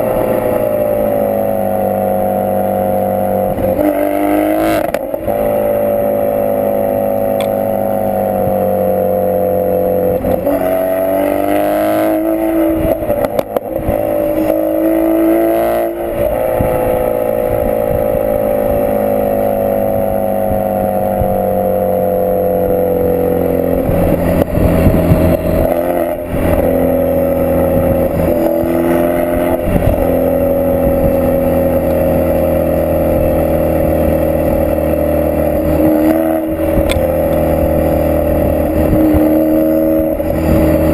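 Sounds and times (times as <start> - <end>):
car exhaust droning: 0.0 - 40.9
exhaust crackles: 0.0 - 40.9.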